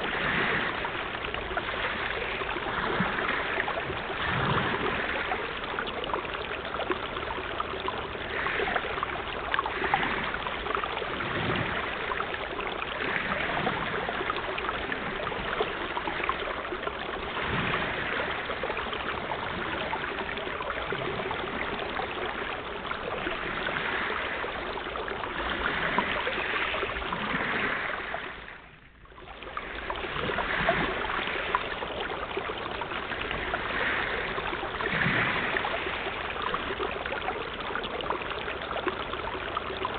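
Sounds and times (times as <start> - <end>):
sea water washing and splashing: 0.0 - 39.9.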